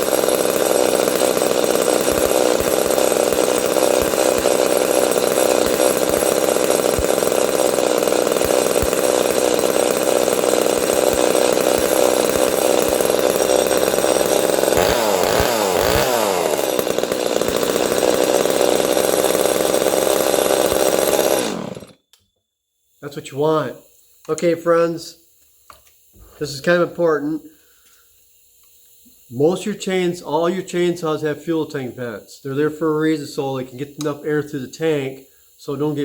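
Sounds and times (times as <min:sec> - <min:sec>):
two-stroke chainsaw engine running: 0:00.0 - 0:22.1, 0:29.1 - 0:36.0.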